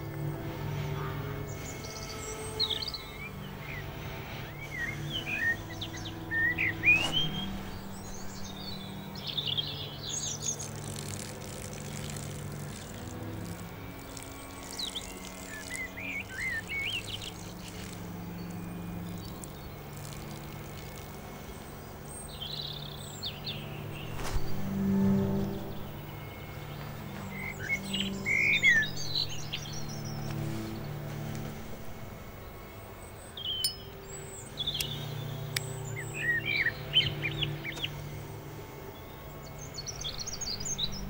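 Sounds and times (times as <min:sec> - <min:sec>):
birds chirping and singing: 0:00.0 - 0:41.0
low drone of held string notes: 0:00.0 - 0:41.0.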